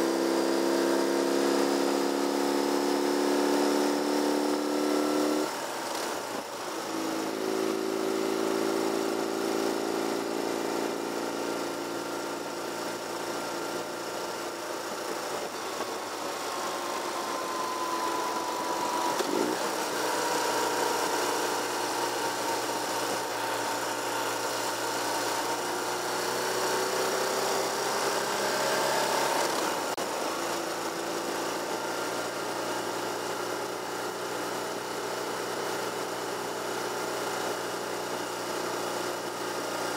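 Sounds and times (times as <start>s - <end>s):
road and wind noise: 0.0s - 39.9s
vehicle engine running: 5.4s - 39.9s.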